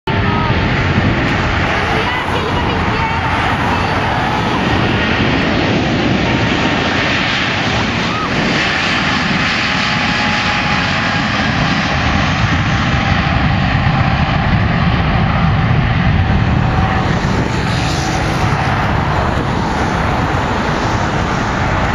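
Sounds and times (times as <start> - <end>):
jet engines roaring: 0.0 - 21.9.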